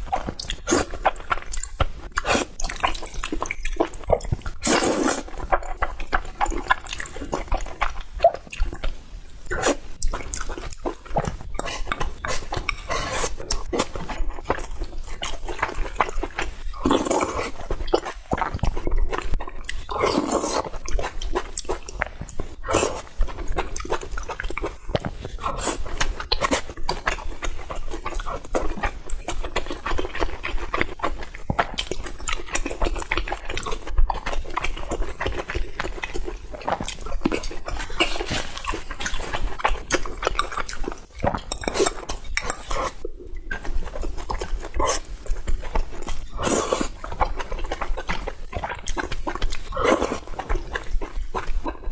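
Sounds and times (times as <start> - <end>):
person chewing and smacking: 0.0 - 51.9.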